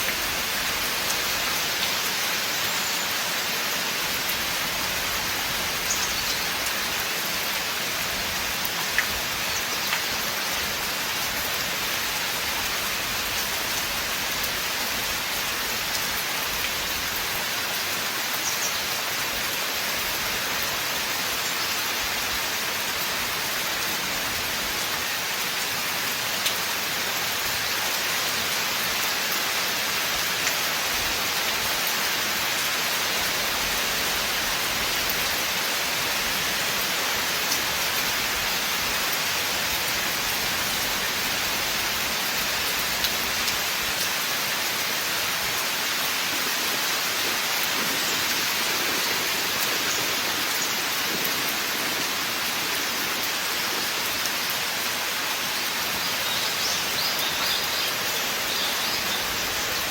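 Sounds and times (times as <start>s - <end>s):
rain falling on forest: 0.0s - 59.9s.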